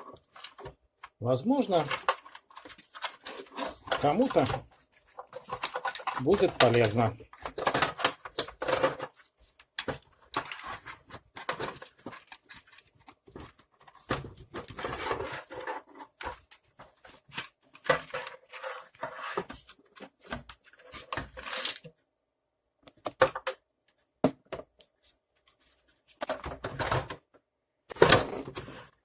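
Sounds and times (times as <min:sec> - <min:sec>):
clicks and knocks of handled objects: 0:00.0 - 0:22.0, 0:26.0 - 0:29.0.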